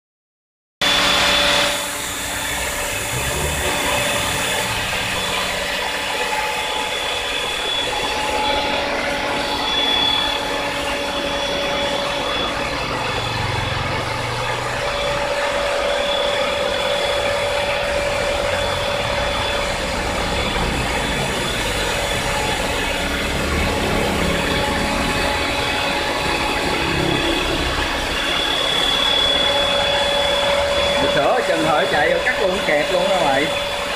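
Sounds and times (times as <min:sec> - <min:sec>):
tile-cutting machine whining: 0:00.8 - 0:33.9.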